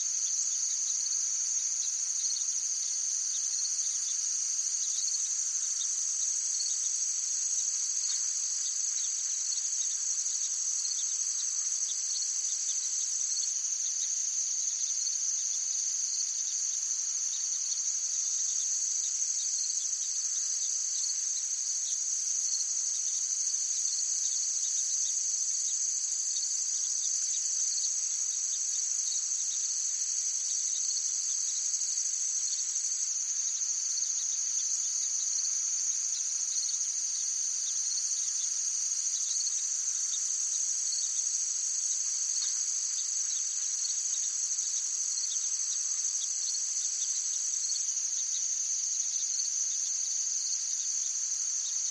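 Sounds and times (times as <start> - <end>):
insects trilling: 0.2 - 51.9.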